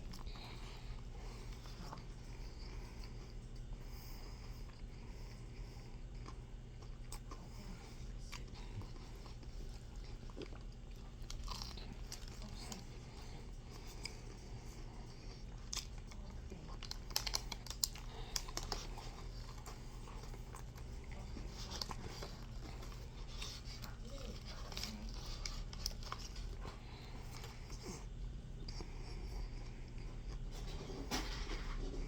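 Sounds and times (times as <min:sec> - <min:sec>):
chewing crunchy food: 0:00.0 - 0:32.0
steady low hum: 0:00.0 - 0:32.0.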